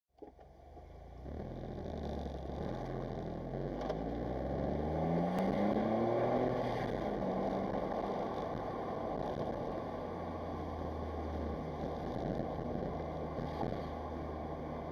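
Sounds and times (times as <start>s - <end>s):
road and wind noise: 0.2s - 14.9s
car engine accelerating: 0.4s - 14.9s.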